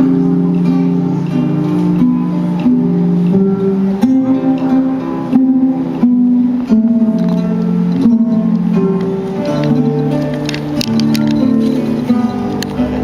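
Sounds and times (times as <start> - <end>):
acoustic guitar strumming: 0.0 - 13.0
held chord notes: 0.0 - 13.0.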